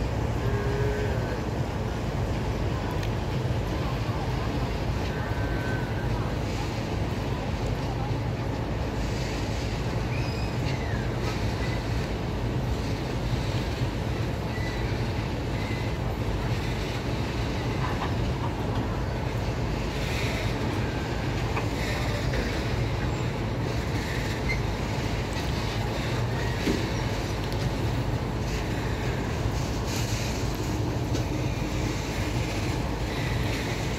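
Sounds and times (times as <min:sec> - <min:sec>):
freight train wheels on rails: 0:00.0 - 0:33.9.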